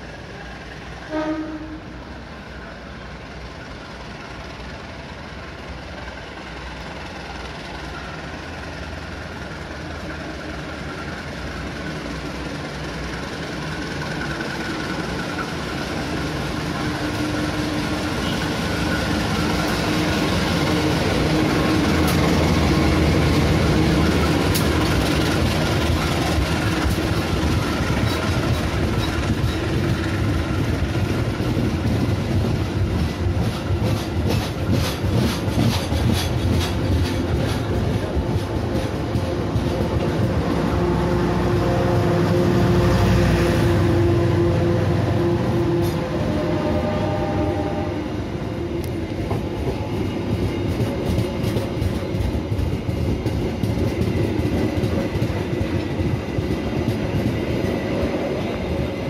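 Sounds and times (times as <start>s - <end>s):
diesel locomotive engine: 0.0s - 59.0s
train wheels clickety-clack on rails: 0.0s - 59.0s.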